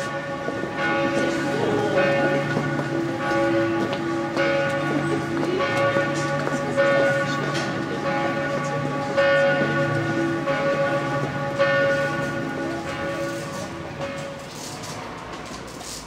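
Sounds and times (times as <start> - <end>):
church bells ringing: 0.0 - 15.7.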